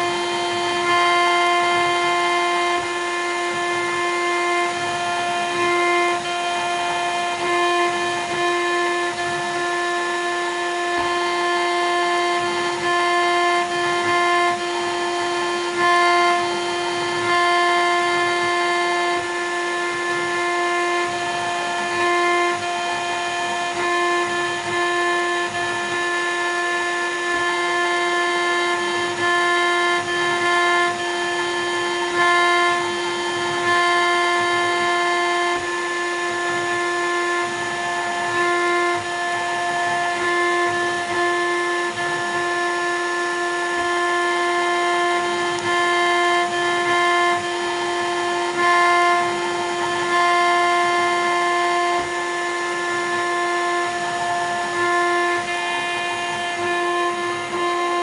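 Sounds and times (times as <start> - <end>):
router spindle whining: 0.0 - 58.0.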